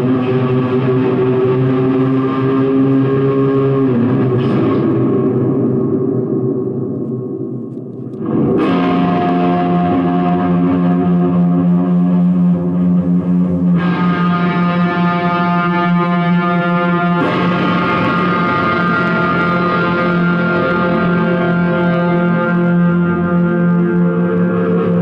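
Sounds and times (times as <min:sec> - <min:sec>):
loud noise music drone: 0:00.0 - 0:25.0.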